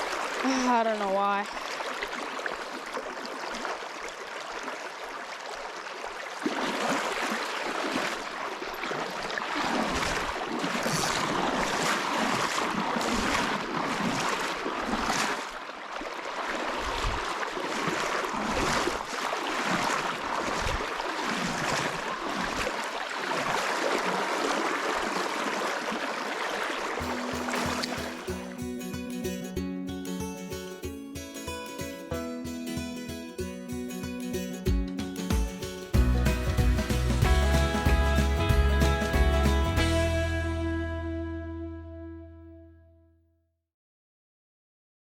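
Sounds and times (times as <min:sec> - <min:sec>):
river water flowing: 0:00.0 - 0:40.8.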